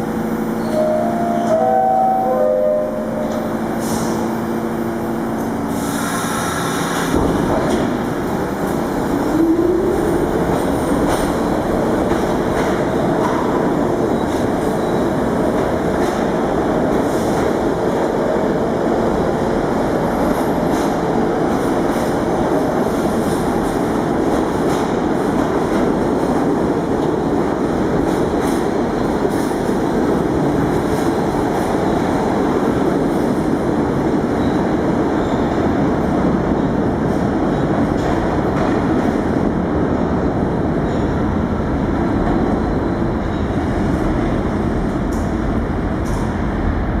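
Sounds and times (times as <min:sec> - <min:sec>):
subway train rumble: 0:00.0 - 0:47.0.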